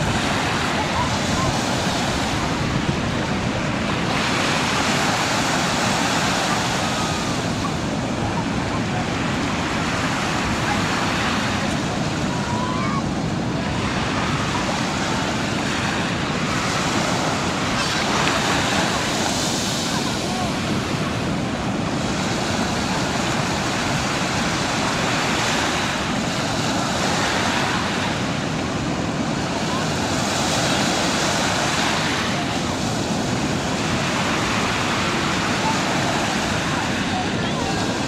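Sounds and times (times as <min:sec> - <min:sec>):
sea waves washing up beach: 0:00.0 - 0:38.0.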